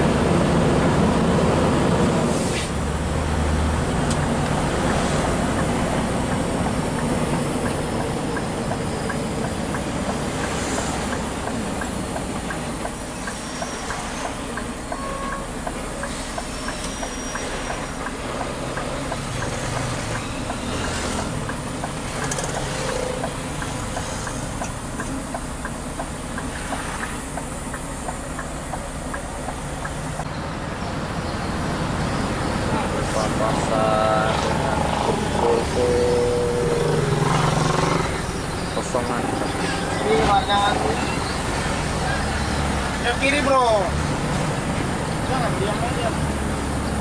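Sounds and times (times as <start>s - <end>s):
diesel truck engine rumble: 0.0s - 47.0s
road noise: 0.0s - 47.0s.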